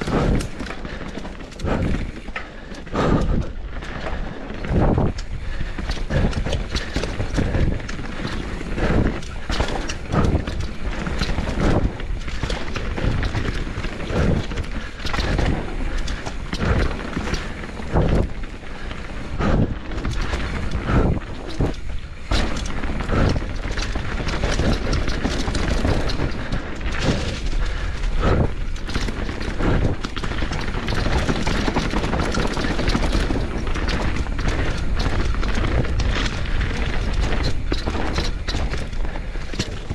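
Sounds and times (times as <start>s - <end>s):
bike thudding and rattling: 0.0s - 39.9s
bike tyres rumbling on trail: 0.0s - 39.9s.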